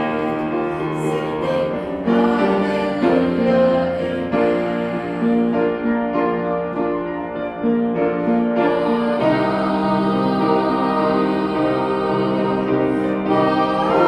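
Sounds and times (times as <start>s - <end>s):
piano playing chords and melody: 0.0s - 14.0s.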